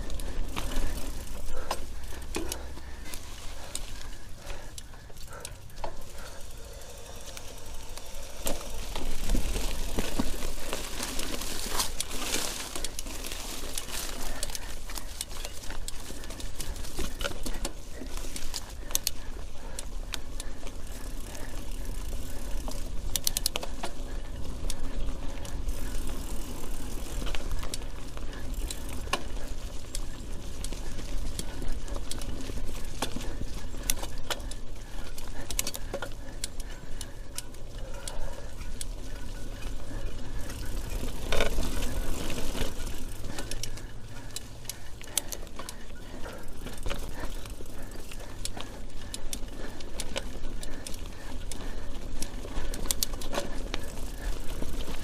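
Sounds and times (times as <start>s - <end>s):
bike chain and frame rattling: 0.0s - 55.0s.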